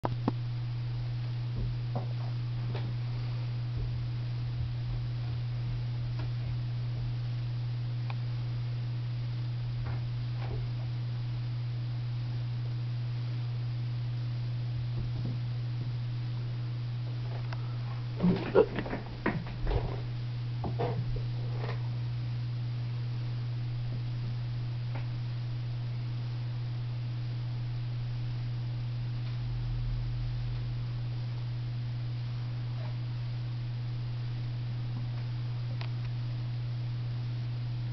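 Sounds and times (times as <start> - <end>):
low electrical hum: 0.0 - 37.9.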